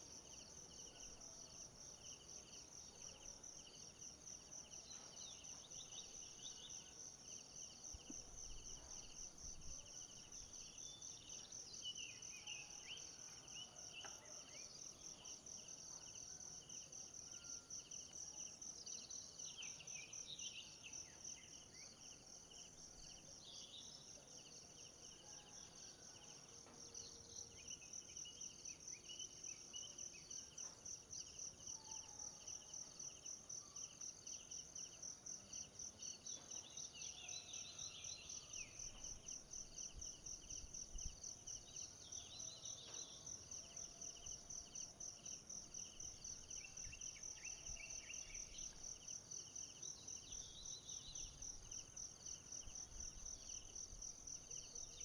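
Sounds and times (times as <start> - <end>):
lower pulsing insect trill: 0.0 - 55.0.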